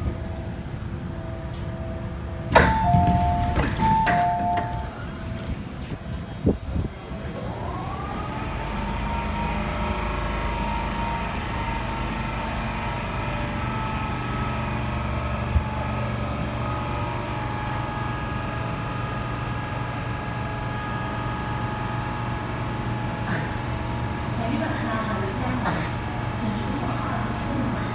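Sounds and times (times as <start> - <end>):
low machinery hum with whining tones: 0.0 - 27.9.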